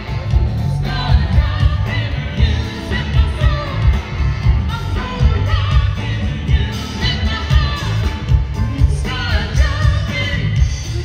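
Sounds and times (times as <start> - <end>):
bass and drum beat: 0.0 - 11.0
electric guitar: 0.0 - 11.0
woman and man singing: 0.3 - 11.0.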